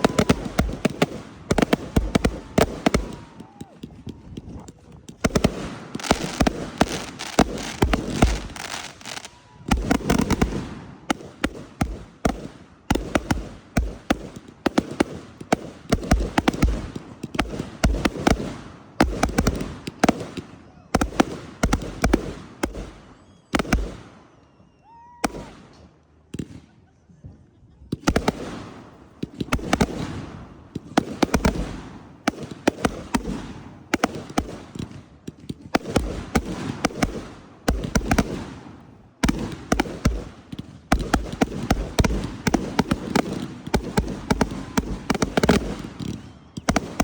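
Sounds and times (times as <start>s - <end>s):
fireworks crackling: 0.0s - 24.0s, 28.0s - 47.0s
faint fireworks whistles: 0.0s - 47.0s
fireworks bangs and booms: 0.0s - 47.0s.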